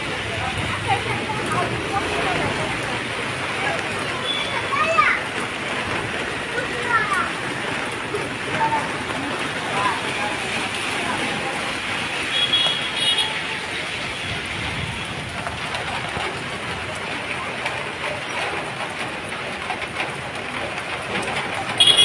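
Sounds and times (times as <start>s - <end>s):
heavy rain on pavement: 0.0s - 22.0s.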